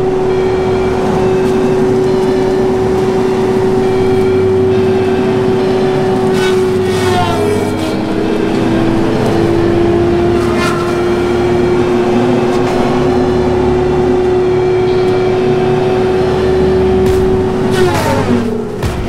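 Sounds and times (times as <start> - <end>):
heavy machine whining under load: 0.0 - 19.0.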